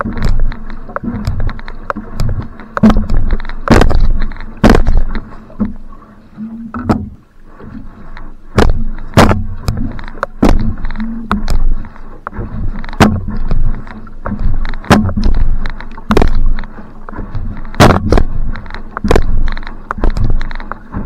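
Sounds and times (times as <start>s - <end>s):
paddle splashing in water: 0.0s - 21.0s
water noise: 0.0s - 21.0s.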